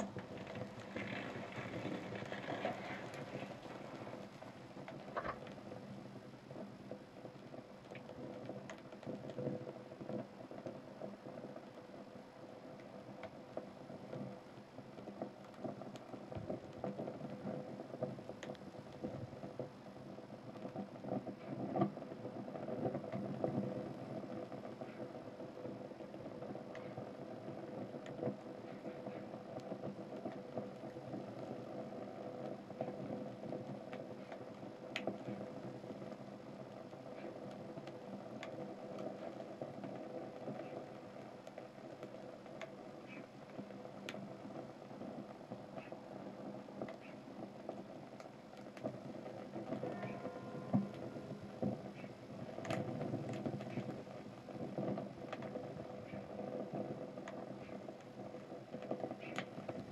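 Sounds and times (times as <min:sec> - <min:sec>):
burning sneakers crackling: 0:00.0 - 0:59.9.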